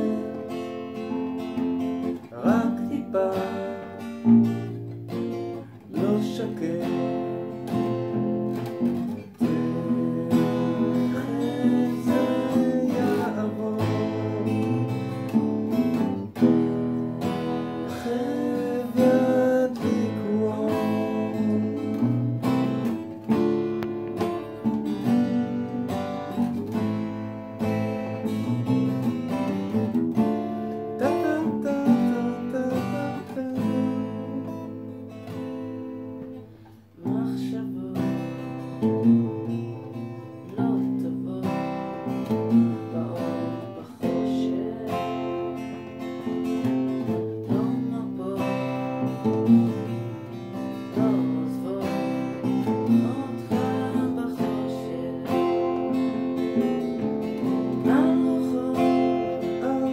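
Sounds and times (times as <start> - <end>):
acoustic bass guitar: 0.0 - 59.9
acoustic guitar strumming: 0.0 - 59.9.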